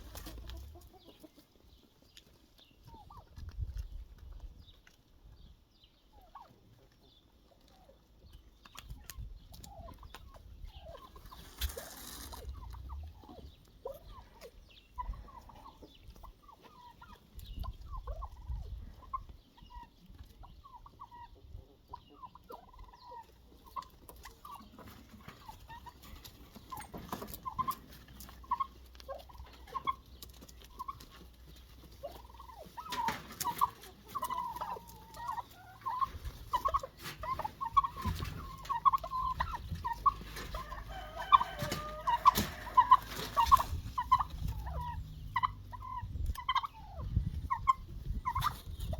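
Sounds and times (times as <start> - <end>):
poultry calling: 8.9 - 48.9.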